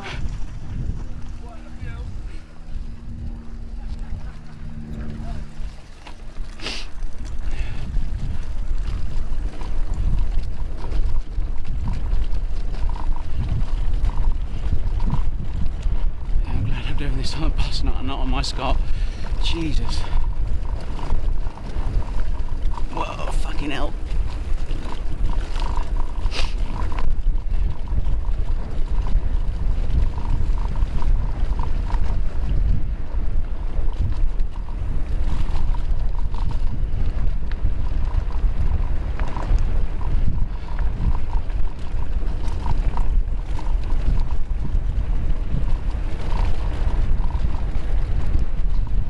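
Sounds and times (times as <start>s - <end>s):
bike clicks and rattles: 0.0s - 49.0s
bike tyre noise: 0.0s - 49.0s
wind rumbling on microphone: 0.0s - 49.0s.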